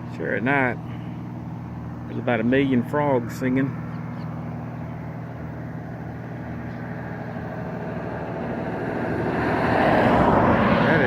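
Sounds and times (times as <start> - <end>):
airboat engine humming: 0.0 - 11.0.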